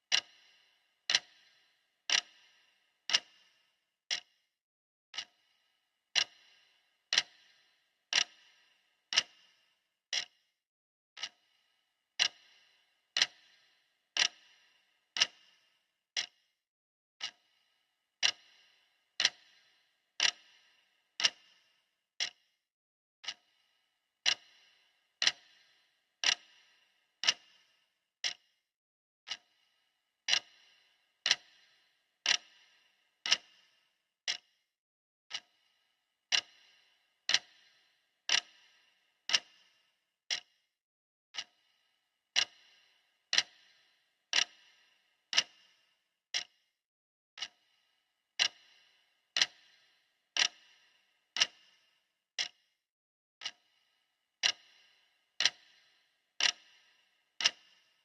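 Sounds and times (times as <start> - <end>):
clock ticking: 0.0 - 4.4, 5.1 - 10.4, 11.2 - 11.6, 12.2 - 16.4, 17.2 - 17.6, 18.2 - 22.4, 23.2 - 23.6, 24.2 - 28.5, 29.3 - 34.6, 35.3 - 35.7, 36.3 - 40.6, 41.3 - 46.6, 47.4 - 47.8, 48.4 - 52.7, 53.4 - 58.0.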